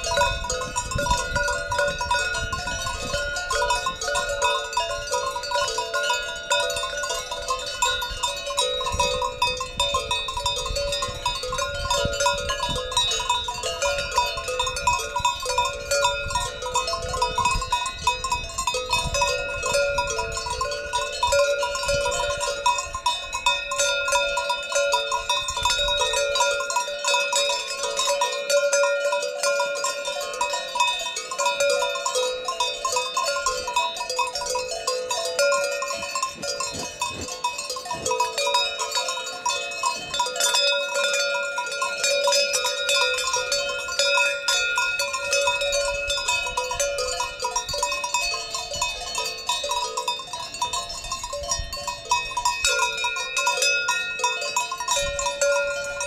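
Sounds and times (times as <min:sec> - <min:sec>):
cowbells clanking: 0:00.0 - 0:56.0.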